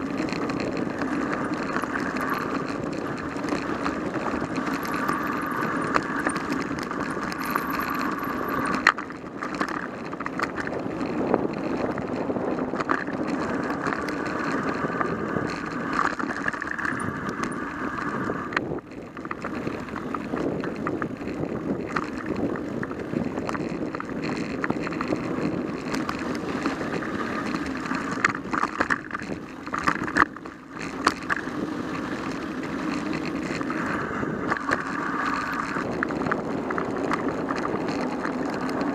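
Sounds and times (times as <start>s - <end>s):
bike tyres and frame rattling: 0.0s - 38.9s
wheels knocking on bumps: 0.0s - 38.9s.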